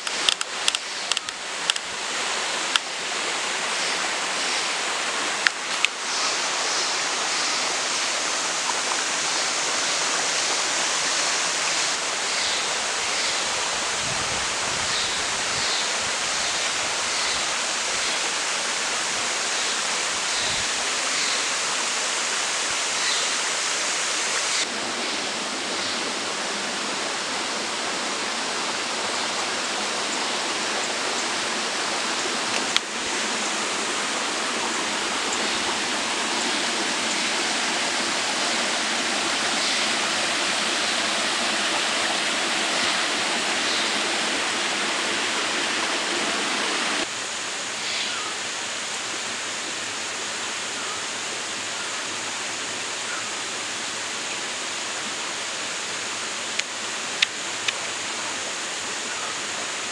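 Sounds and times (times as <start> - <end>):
water flowing over rocks: 0.0 - 59.9.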